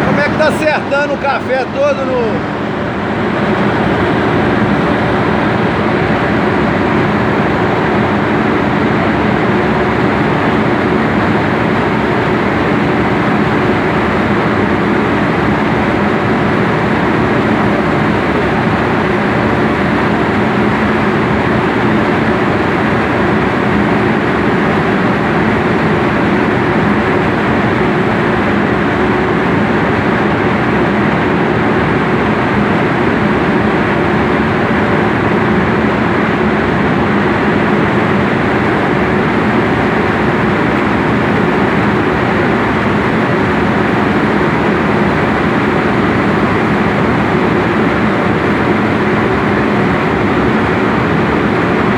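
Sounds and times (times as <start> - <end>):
dryer machine drone: 0.0 - 51.9.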